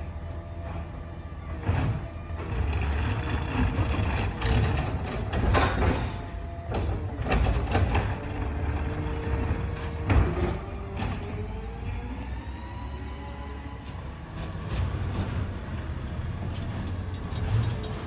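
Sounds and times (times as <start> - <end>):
garbage truck engine rumble: 0.0 - 18.0.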